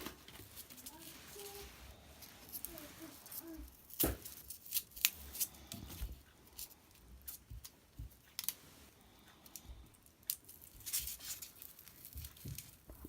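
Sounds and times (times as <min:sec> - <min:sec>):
hands handling craft materials: 0:00.0 - 0:13.0.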